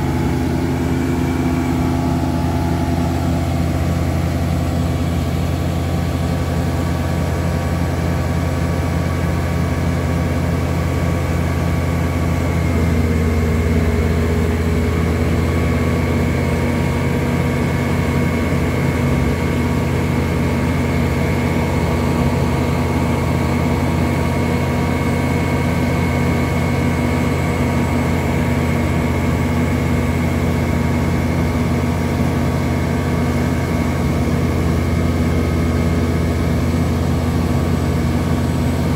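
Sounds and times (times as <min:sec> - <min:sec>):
vacuum truck diesel drone: 0:00.0 - 0:38.9.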